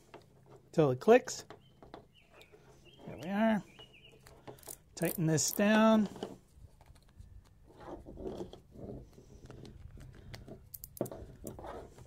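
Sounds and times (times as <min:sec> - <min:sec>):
plastic scraping and handling: 0:01.4 - 0:12.0.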